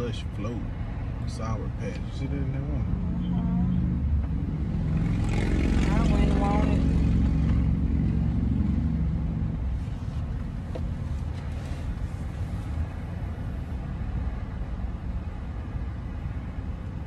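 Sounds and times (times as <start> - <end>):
car cabin engine and road rumble: 0.0 - 17.0.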